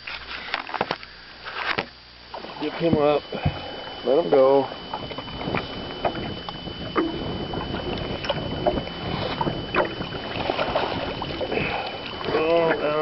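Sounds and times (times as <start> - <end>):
knocks and clatters on boat: 1.6 - 3.8, 4.6 - 13.0
water splashing: 2.3 - 13.0.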